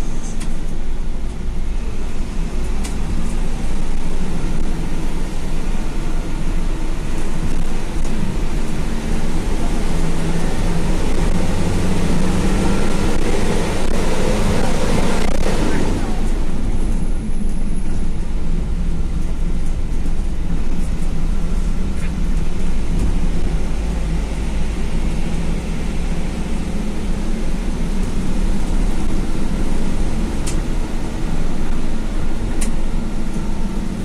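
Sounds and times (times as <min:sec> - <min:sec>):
bus engine and tyres rumbling: 0:00.0 - 0:34.0.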